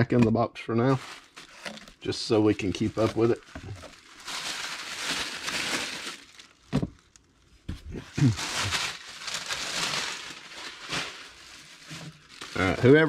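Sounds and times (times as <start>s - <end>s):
tissue paper crinkling: 0.9s - 13.0s.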